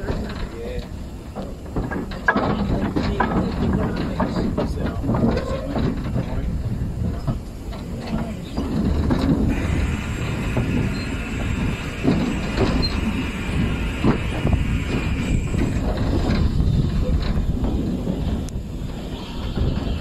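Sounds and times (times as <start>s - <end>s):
locomotive rumble: 0.0s - 20.0s
rail joint clicks: 0.0s - 20.0s
wheels squealing on rails: 0.0s - 20.0s
wind on microphone: 0.0s - 20.0s.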